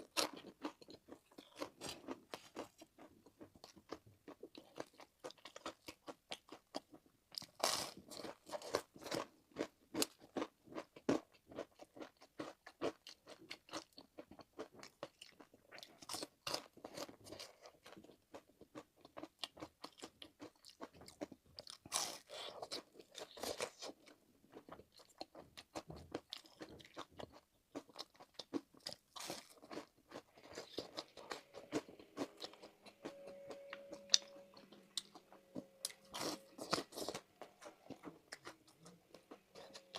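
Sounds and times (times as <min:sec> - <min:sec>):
crunching bites and chewing: 0:00.0 - 0:39.9.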